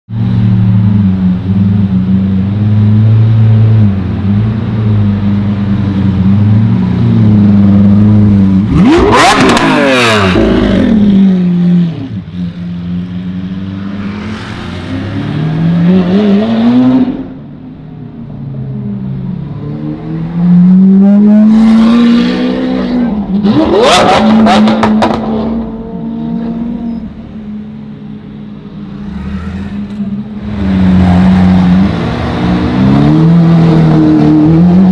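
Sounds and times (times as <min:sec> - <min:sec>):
sports car engine cruising: 0:00.2 - 0:34.9.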